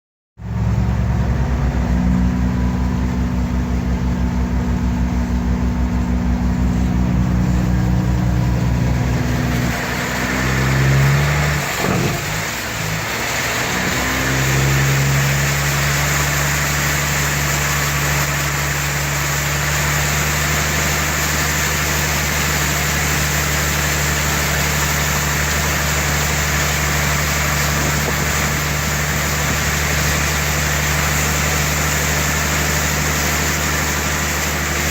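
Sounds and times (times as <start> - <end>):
engine running: 0.4 - 34.9.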